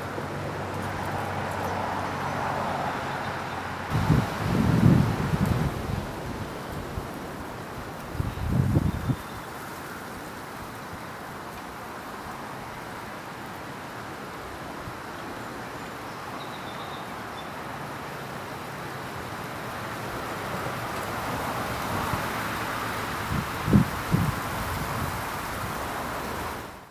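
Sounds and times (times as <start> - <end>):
rushing outdoor background noise: 0.0 - 26.9.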